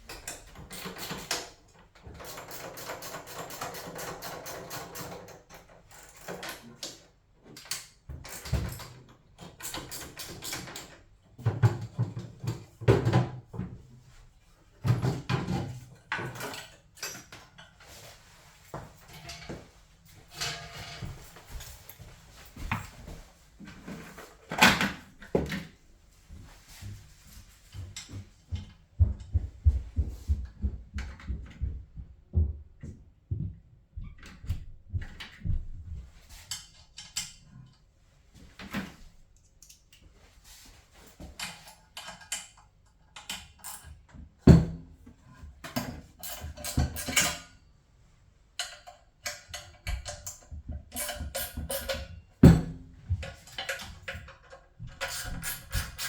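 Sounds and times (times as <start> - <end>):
hand tools and metal parts clattering: 0.0 - 28.7, 36.1 - 44.6, 45.3 - 47.6, 48.6 - 56.0.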